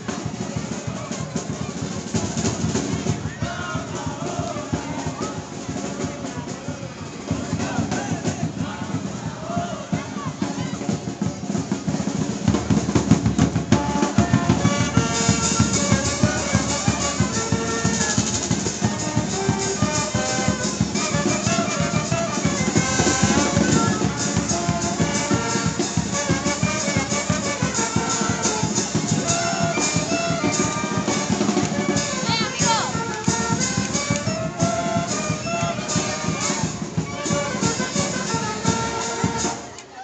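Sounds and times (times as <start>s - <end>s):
steady drum beat: 0.0s - 39.7s
street band playing lively tune: 0.0s - 40.0s.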